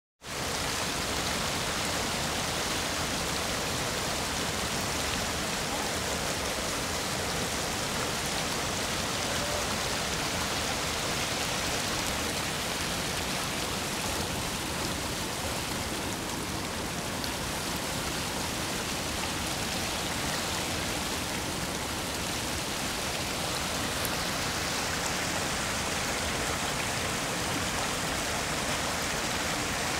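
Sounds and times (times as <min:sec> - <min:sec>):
river rapids rushing over rock: 0:00.4 - 0:29.9.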